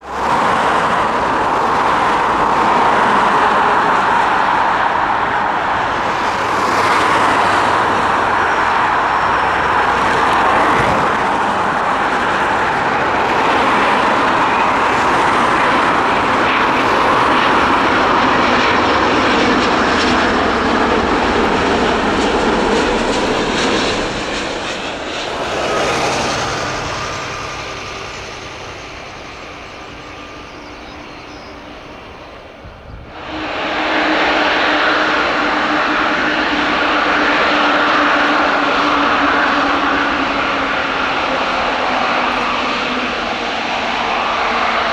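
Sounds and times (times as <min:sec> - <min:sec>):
jet engine noise: 0:00.0 - 0:44.9.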